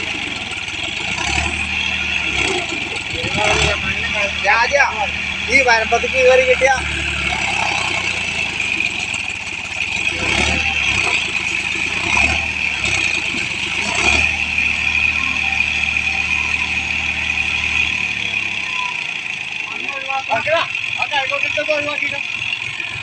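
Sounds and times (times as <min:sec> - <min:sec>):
tractor engine revving under load: 0:00.0 - 0:23.0.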